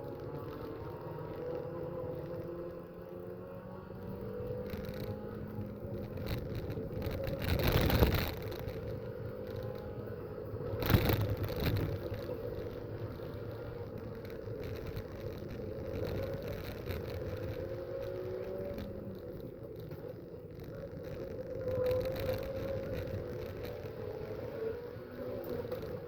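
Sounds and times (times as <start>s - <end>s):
race car engines running: 0.0s - 26.0s.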